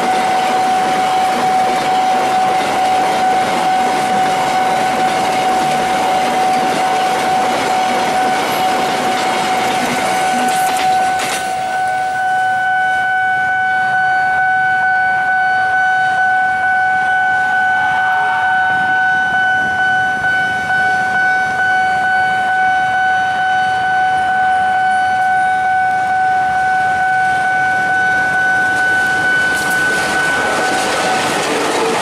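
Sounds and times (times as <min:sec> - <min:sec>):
diesel locomotive engine and wheels: 0:00.0 - 0:32.0
level crossing warning alarm: 0:00.0 - 0:32.0.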